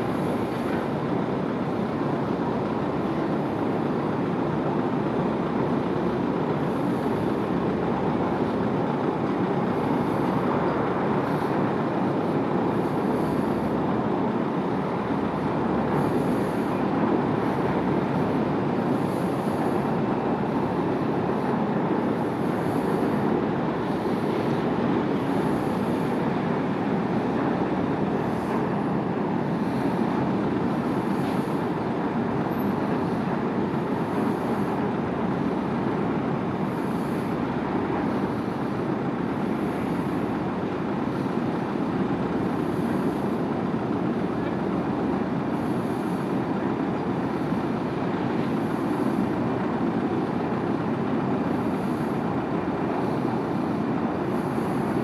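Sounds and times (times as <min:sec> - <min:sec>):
outdoor rumble and hiss: 0:00.0 - 0:55.0.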